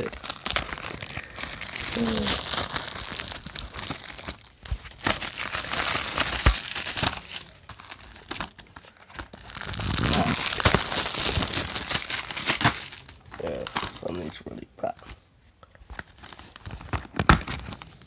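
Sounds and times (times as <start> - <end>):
plastic shrink-wrap crinkling and tearing: 0.0 - 14.4, 15.9 - 18.0.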